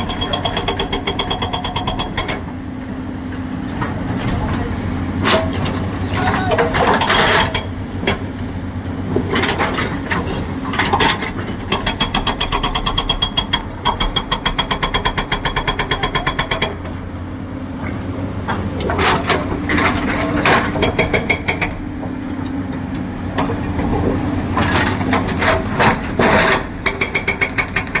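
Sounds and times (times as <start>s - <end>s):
excavator diesel engine droning: 0.0s - 12.2s, 13.1s - 27.0s.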